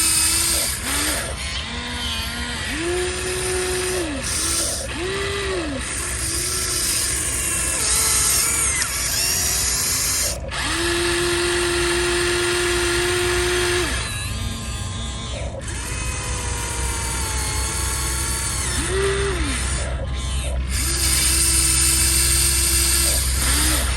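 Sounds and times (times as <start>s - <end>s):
small electric motors whining: 0.0s - 23.9s.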